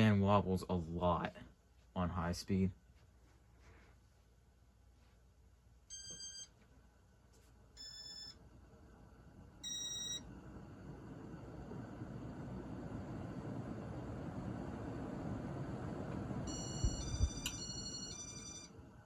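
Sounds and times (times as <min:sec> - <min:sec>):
ceiling fan whirring: 0:00.0 - 0:19.0.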